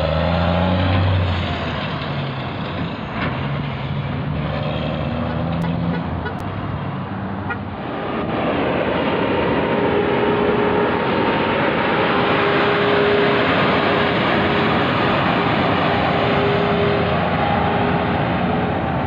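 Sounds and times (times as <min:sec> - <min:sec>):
diesel truck engine hum: 0:00.0 - 0:19.0
road traffic: 0:00.0 - 0:19.0.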